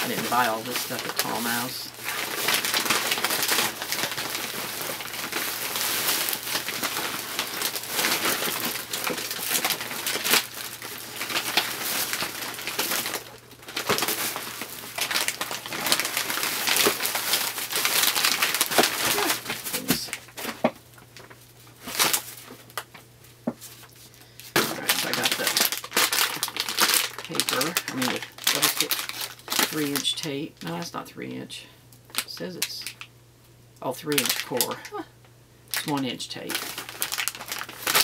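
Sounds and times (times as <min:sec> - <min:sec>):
plastic bags rustling: 0:00.0 - 0:30.7, 0:34.1 - 0:35.0, 0:35.7 - 0:38.0.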